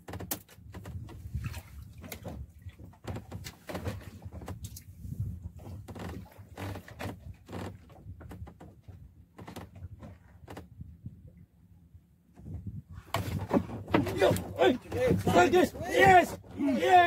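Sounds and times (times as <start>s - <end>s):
knocks and thuds on boat: 0.0s - 11.3s, 12.3s - 17.0s.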